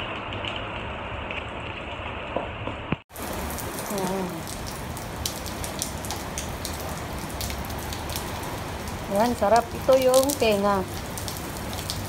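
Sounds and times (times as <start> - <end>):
heavy rain splashing on pavement: 0.0 - 12.0.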